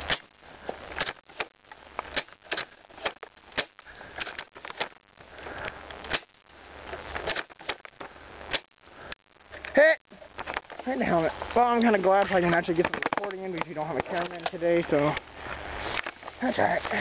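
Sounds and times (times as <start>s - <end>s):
rustling of dry leaves: 0.0s - 17.0s
sharp crackles and snaps: 0.0s - 17.0s.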